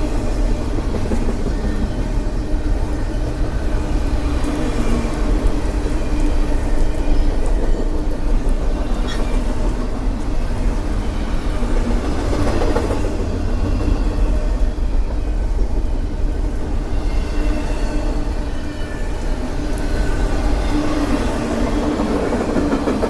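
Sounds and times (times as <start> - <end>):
freight train rolling past: 0.0 - 23.0
steel wheels on rails: 0.0 - 23.0.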